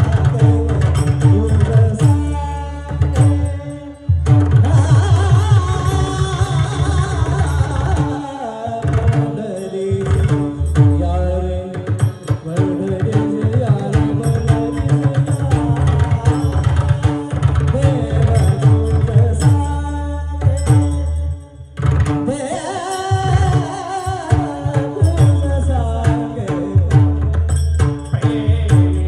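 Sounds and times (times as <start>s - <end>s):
person singing devotional song: 0.0s - 29.0s.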